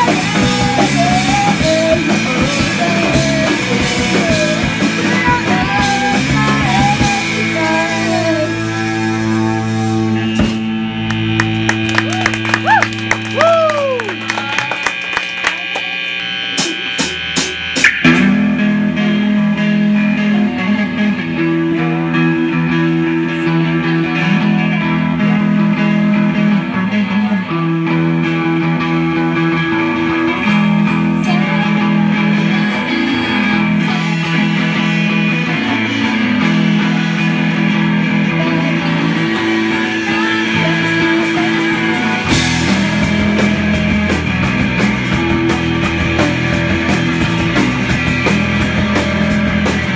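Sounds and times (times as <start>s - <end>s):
punk rock band playing: 0.0s - 49.9s.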